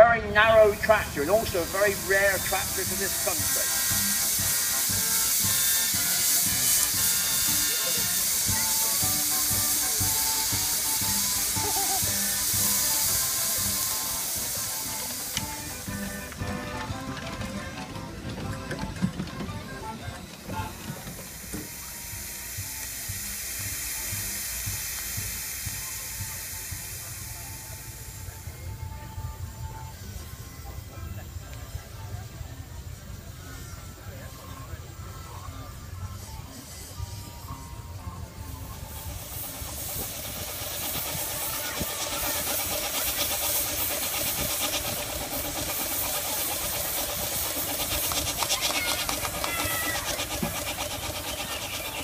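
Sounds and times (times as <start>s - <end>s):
steam hissing: 0.0s - 52.0s.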